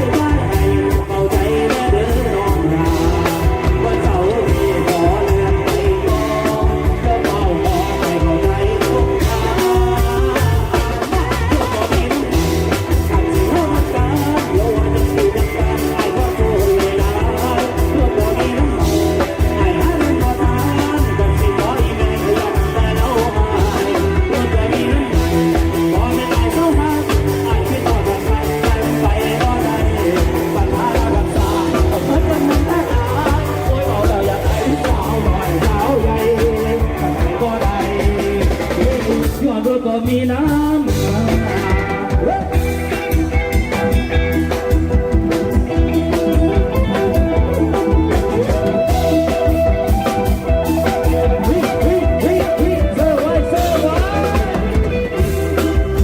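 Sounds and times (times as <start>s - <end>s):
bass line: 0.0s - 56.0s
bending lead melody: 0.0s - 56.0s
drum kit beat: 0.0s - 56.0s
live band playing dance music: 0.0s - 56.0s.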